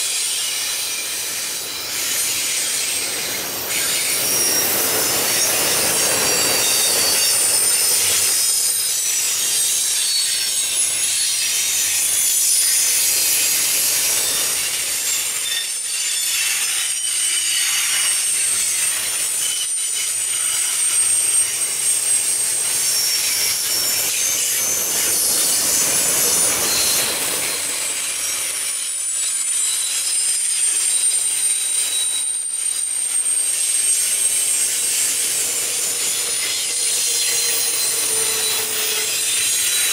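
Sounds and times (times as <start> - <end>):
train wheels rumbling on rails: 0.0 - 16.7, 18.5 - 39.9
high-pitched wheel squeals: 0.0 - 39.9.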